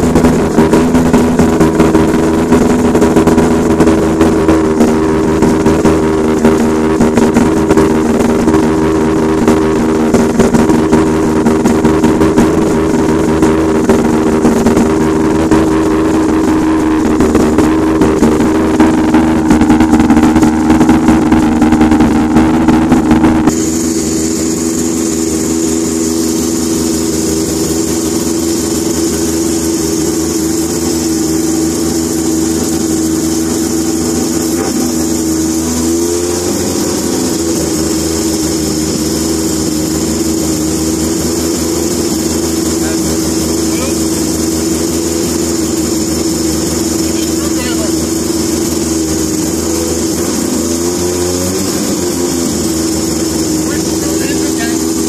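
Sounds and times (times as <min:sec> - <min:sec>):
rotary engine idling: 0:00.0 - 0:55.0.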